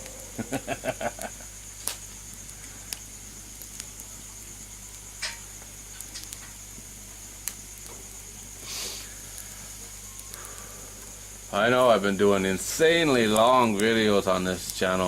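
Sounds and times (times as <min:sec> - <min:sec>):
fire hissing: 0:00.0 - 0:15.0
wood fire crackling: 0:00.0 - 0:15.0
sharp pops of burning wood: 0:00.9 - 0:15.0.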